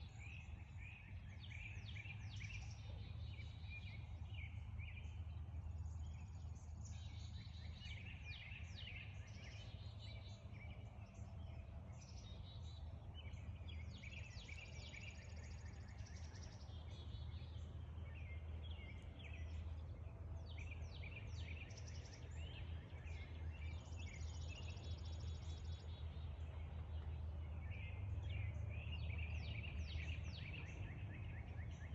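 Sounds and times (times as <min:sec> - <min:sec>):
birds chirping and singing: 0:00.0 - 0:31.9
steady low rumble: 0:01.2 - 0:31.9.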